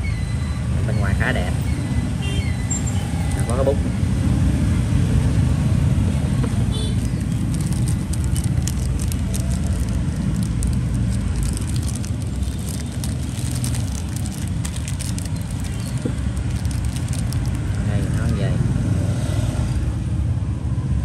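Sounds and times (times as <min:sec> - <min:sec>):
low rumble of background noise: 0:00.7 - 0:21.0.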